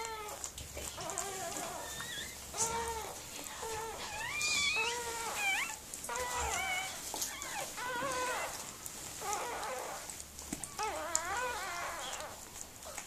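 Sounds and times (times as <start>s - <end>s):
puppy crying high squeals: 0.0s - 13.0s.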